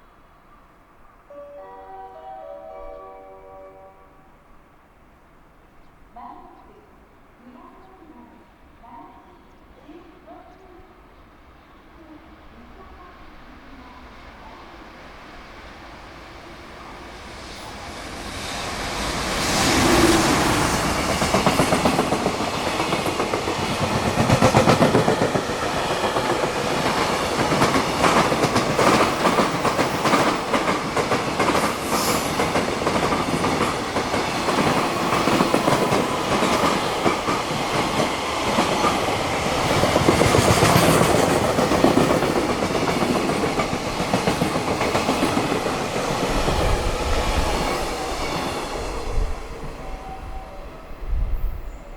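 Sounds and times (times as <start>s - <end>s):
freight train passing: 0.0s - 51.9s.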